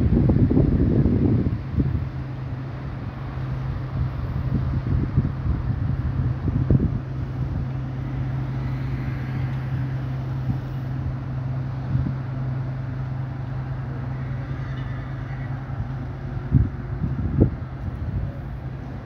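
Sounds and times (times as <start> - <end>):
boat diesel engine droning: 0.0 - 19.0
wind gusts on microphone: 0.0 - 19.0.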